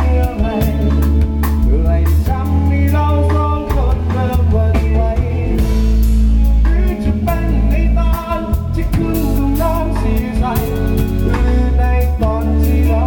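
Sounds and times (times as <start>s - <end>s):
pop song with singing: 0.0s - 13.0s.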